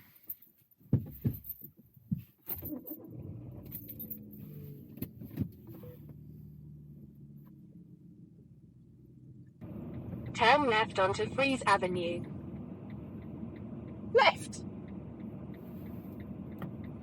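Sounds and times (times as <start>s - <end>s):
car engine starting and idling: 2.5s - 17.0s.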